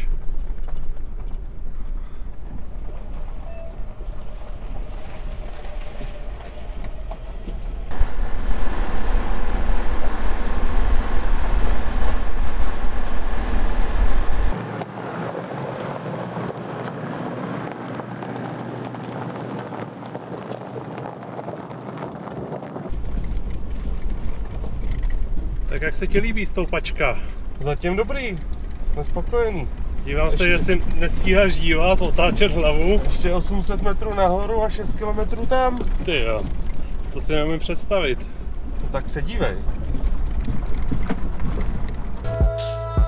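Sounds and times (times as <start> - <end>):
wind noise: 0.0 - 42.3
engine and tyre rumble: 0.0 - 42.6.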